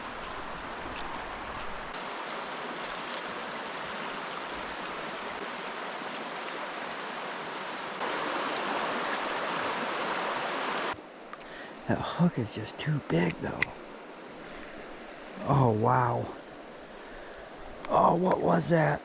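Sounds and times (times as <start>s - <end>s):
stream water babbling: 0.0s - 19.0s.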